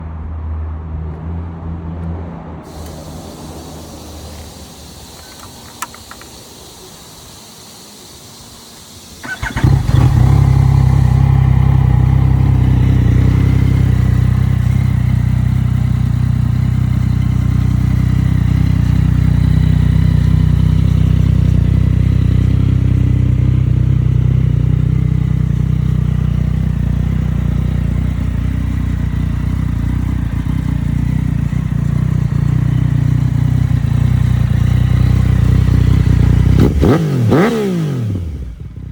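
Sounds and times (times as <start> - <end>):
motorcycle engine idling loudly: 2.7 - 38.9
motorcycle engine starting: 2.7 - 38.9.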